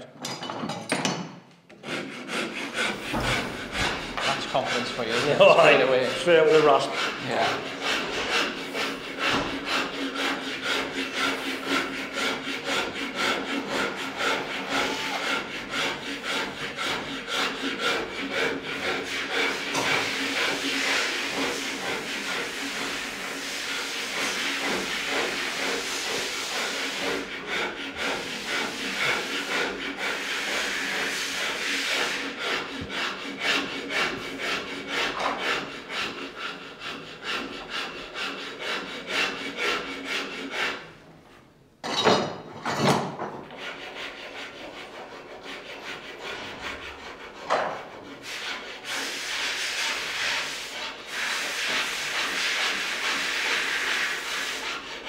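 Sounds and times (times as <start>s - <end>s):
file scraping wood: 1.7s - 41.5s, 42.3s - 55.0s.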